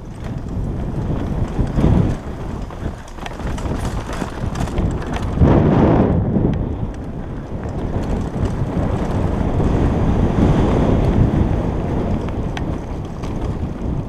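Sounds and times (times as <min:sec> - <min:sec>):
bike rattling clicks: 0:00.0 - 0:14.0
bike tyres rumbling on dirt: 0:00.0 - 0:14.0
wind buffeting microphone: 0:00.0 - 0:14.0.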